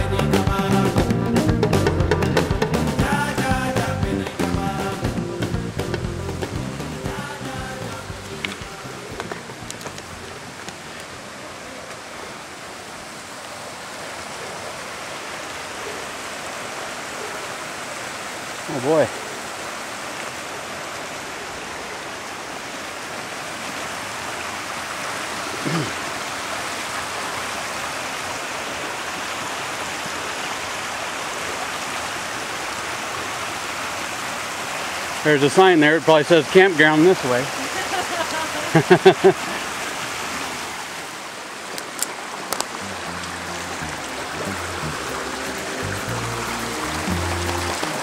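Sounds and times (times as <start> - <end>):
creek water rushing: 0.0 - 48.0.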